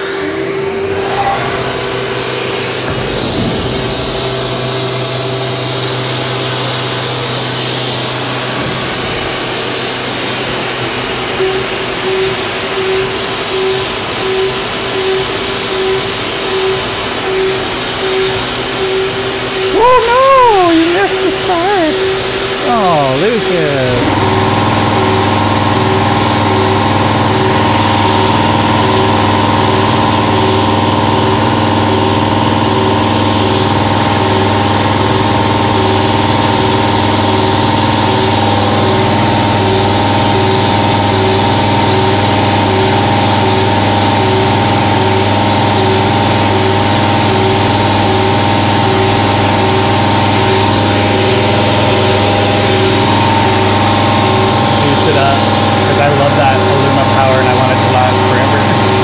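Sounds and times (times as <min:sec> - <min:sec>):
milling machine whine: 0:00.0 - 0:59.0.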